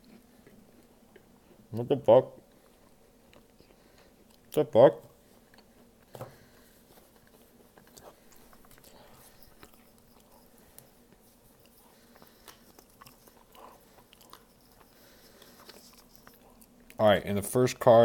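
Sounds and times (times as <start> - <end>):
faint chewing crunches: 0.0 - 17.0.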